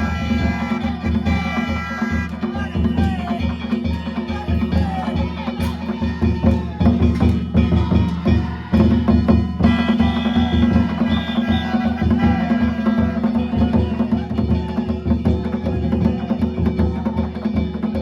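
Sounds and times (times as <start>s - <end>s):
drums and hand gongs: 0.0s - 18.0s.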